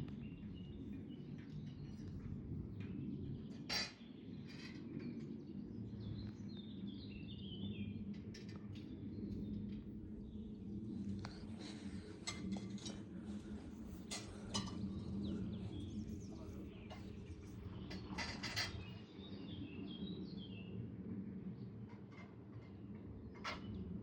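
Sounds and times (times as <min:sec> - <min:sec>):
steady low rumble: 0:00.0 - 0:03.7, 0:04.3 - 0:22.0
small birds chirping: 0:00.0 - 0:20.8.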